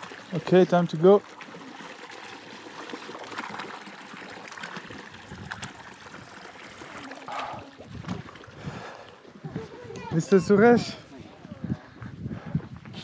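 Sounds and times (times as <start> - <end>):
water trickling: 0.0 - 11.1.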